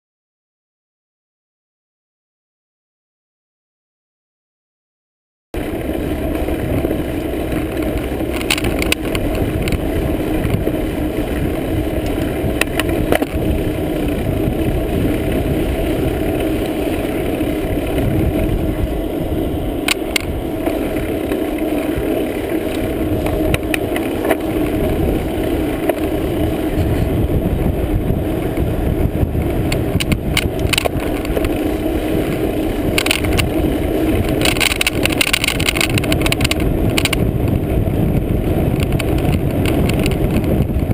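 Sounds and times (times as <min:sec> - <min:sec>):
tyre and road noise: 0:05.6 - 0:40.9
wind buffeting microphone: 0:05.6 - 0:40.9.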